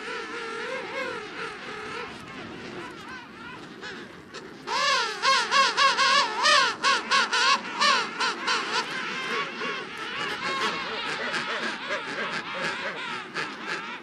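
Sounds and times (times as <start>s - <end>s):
faint penguin calls: 0.0s - 14.0s
penguin warbling call: 0.1s - 14.0s.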